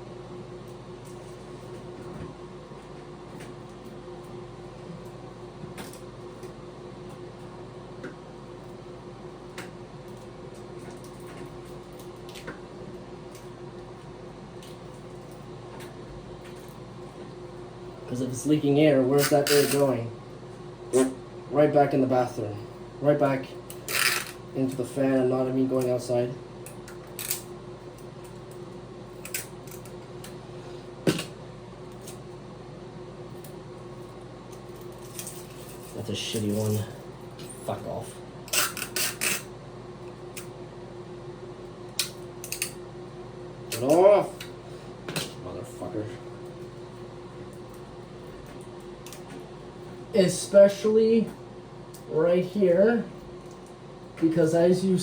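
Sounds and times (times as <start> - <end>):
exhaust fan humming: 0.0 - 55.0.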